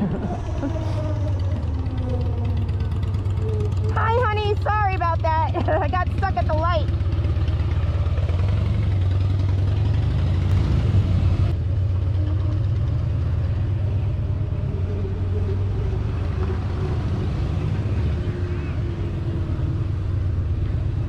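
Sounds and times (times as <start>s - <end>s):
road rumble: 0.0s - 21.0s.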